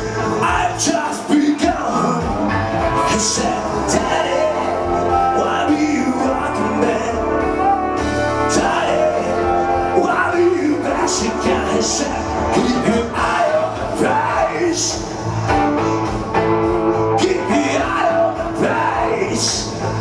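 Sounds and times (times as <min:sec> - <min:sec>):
man singing: 0:00.0 - 0:16.1, 0:16.9 - 0:20.0
karaoke backing track with drums: 0:00.0 - 0:20.0.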